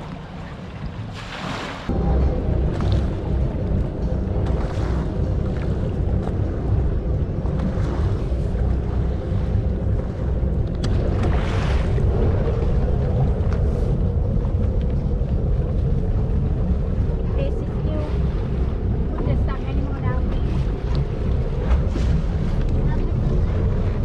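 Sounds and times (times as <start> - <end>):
hull rushing through water: 0.0 - 24.0
motorboat engine running: 0.0 - 24.0
wind buffeting microphone: 0.0 - 24.0.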